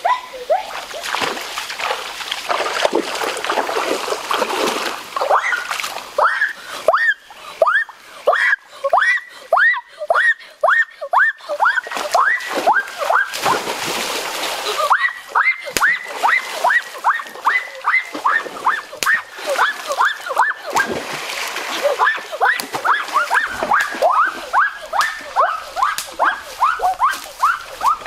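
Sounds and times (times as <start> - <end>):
water splashing and sloshing: 0.0 - 9.5, 11.4 - 28.0.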